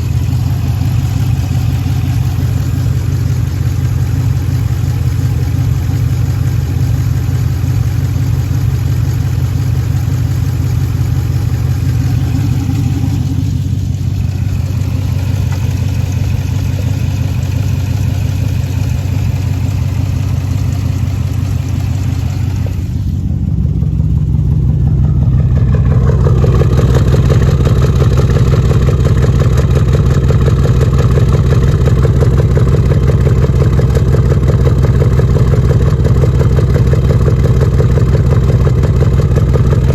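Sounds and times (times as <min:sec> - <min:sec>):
misfiring engine exhaust: 0:00.0 - 0:39.9.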